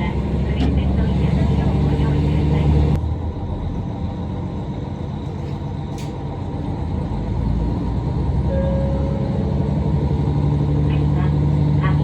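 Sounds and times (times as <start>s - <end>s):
diesel railcar rumble: 0.0s - 12.0s.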